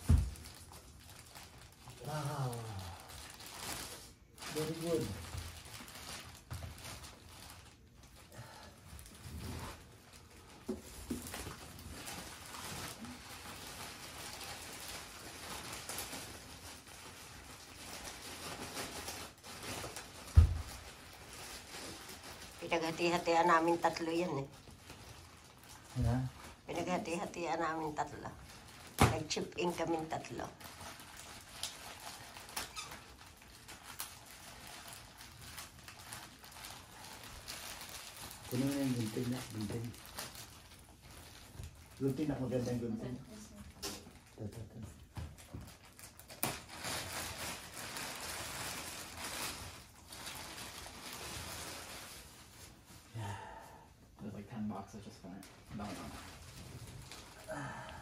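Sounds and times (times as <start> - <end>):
plastic bag crinkling: 0.0 - 53.2, 55.0 - 57.8.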